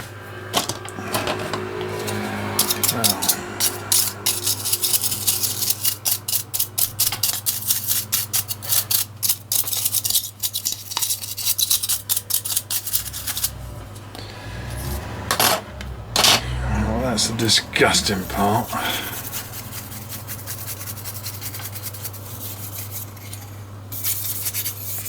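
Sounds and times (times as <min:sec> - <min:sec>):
stiff brush scrubbing: 0:01.9 - 0:15.2, 0:16.2 - 0:25.0.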